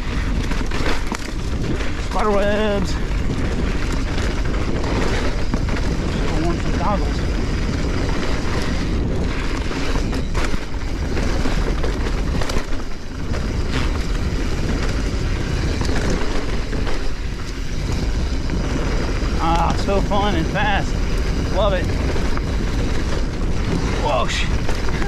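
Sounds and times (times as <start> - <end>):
bike rattling: 0.0 - 25.0
tyres rumbling on dirt trail: 0.0 - 25.0
wind buffeting microphone: 0.0 - 25.0.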